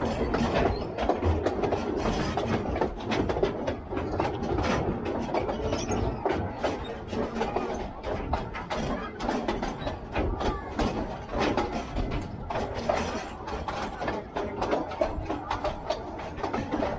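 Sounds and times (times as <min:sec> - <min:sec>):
train rumbling on track: 0:00.0 - 0:16.9
wheels clicking and rattling: 0:00.0 - 0:16.9.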